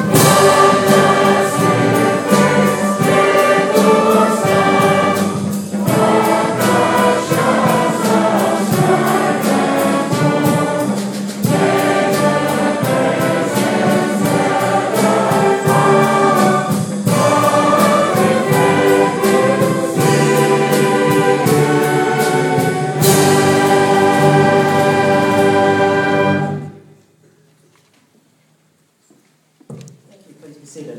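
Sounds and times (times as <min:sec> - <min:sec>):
students singing together: 0:00.0 - 0:26.9
school band with brass: 0:00.0 - 0:27.0.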